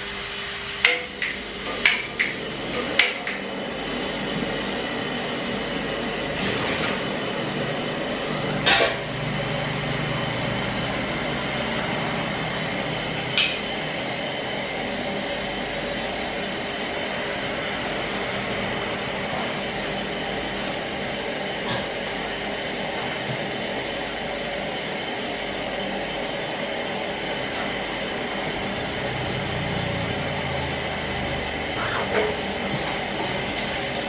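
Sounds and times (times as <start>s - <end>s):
gas burner hissing: 0.0s - 34.0s.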